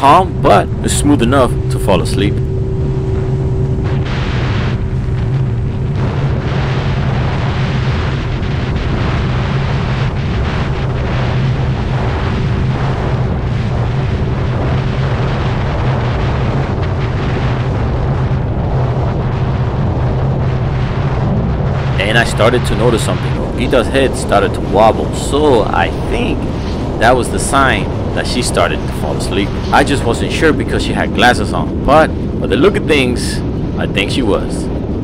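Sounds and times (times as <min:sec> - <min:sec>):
wind noise on microphone: 0:00.0 - 0:35.0.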